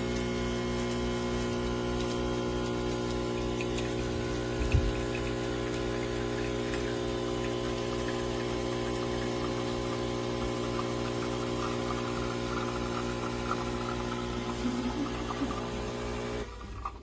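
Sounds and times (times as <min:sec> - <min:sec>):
espresso machine pump buzzing: 0:00.0 - 0:17.0.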